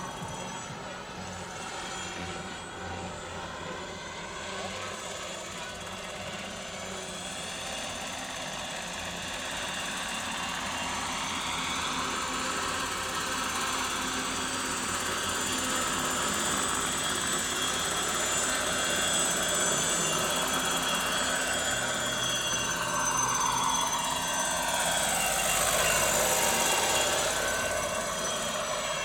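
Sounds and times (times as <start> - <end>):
high-pitched drive whine: 0.0 - 29.0
model helicopter rotor noise: 0.0 - 29.0.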